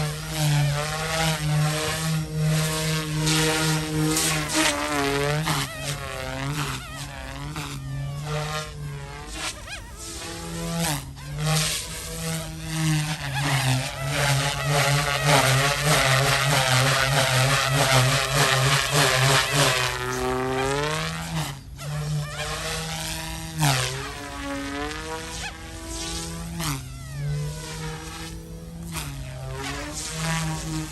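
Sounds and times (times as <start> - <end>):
toy helicopter rotors buzzing: 0.0 - 30.9.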